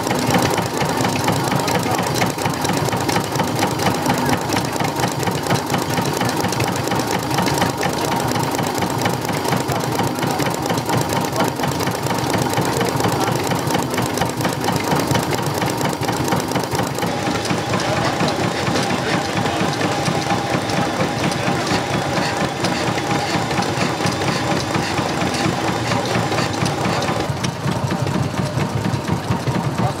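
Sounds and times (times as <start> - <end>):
stationary engine running: 0.0 - 30.0.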